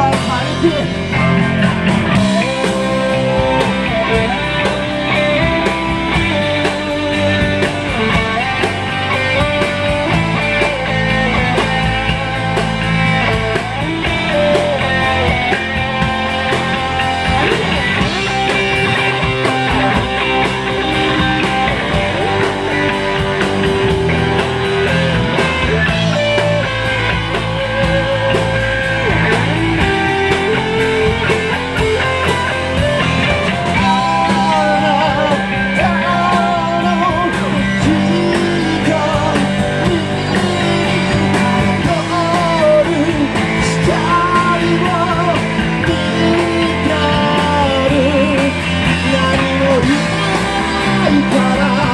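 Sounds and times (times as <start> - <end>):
person singing: 0.0 - 24.0, 33.2 - 51.9
bass and drums: 0.0 - 51.9
distorted electric guitars: 0.0 - 51.9.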